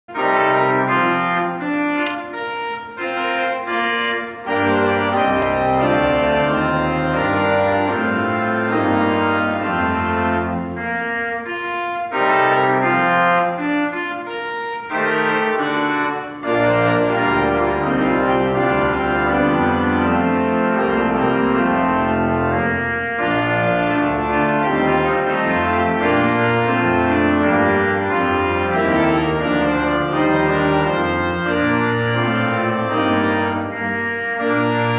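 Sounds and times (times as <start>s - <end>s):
church organ playing chords: 0.1s - 34.9s.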